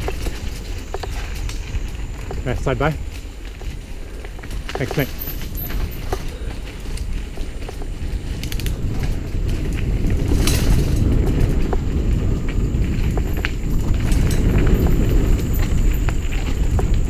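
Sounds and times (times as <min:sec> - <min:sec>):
bike chain rattling and clicking: 0:00.0 - 0:17.0
wind rumble: 0:00.0 - 0:17.0.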